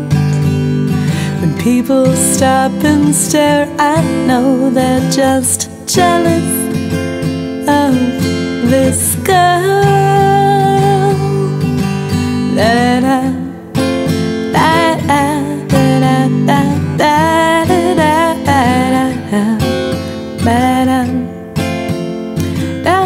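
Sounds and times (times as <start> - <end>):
strummed acoustic guitar: 0.0 - 23.0
woman singing: 0.0 - 23.0.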